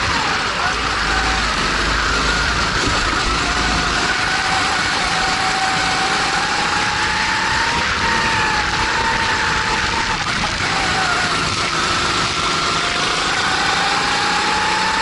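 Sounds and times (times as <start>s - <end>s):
kart engine revving high: 0.0s - 15.0s
steady rushing noise: 0.0s - 15.0s.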